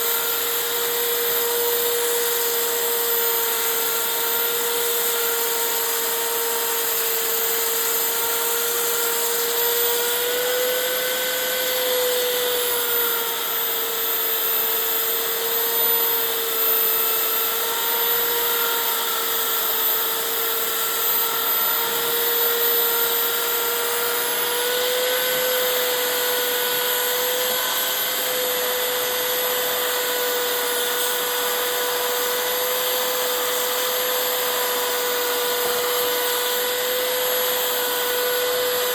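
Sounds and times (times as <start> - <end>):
electric motor whining: 0.0 - 38.9.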